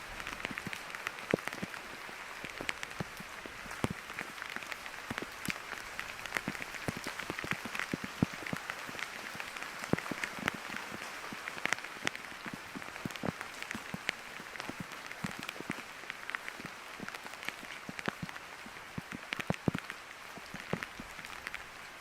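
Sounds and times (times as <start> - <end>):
raindrops tapping nearby: 0.0 - 22.0
steady rain hiss: 0.0 - 22.0.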